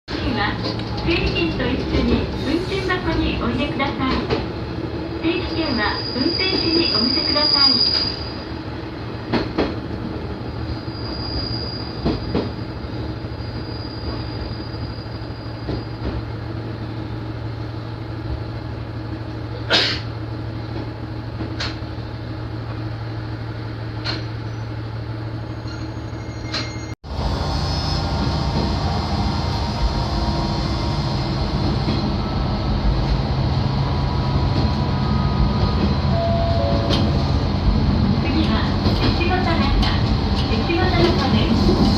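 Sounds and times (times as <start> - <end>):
railcar engine droning: 0.1 - 41.9.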